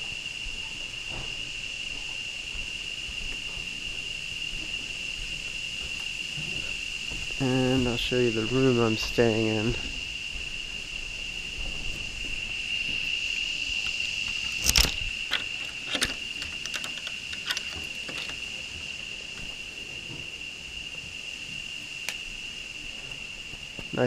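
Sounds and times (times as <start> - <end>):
high-pitched insect drone: 0.0 - 24.0.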